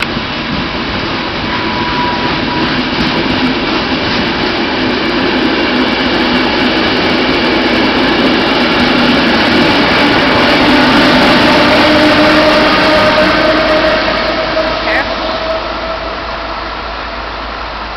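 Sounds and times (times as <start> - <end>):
train rumble: 0.0 - 17.9
train whining tones: 0.0 - 17.9.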